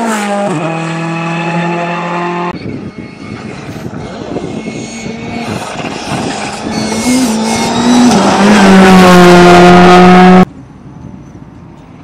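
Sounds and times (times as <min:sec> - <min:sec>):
rally car engine at full throttle: 0:00.0 - 0:10.5.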